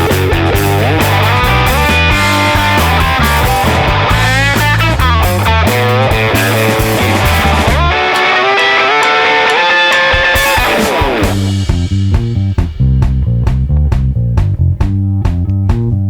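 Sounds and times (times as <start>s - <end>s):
bass line: 0.0s - 8.1s, 10.3s - 16.0s
electric guitar sliding notes: 0.0s - 15.9s.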